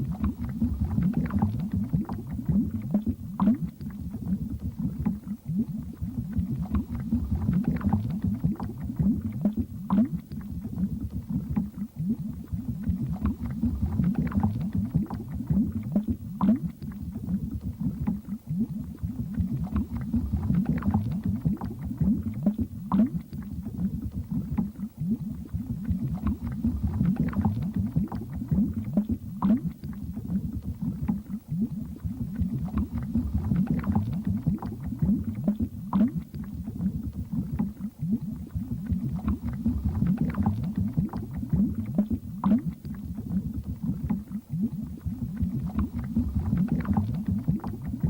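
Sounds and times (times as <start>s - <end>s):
underwater bubbling: 0.0s - 48.0s.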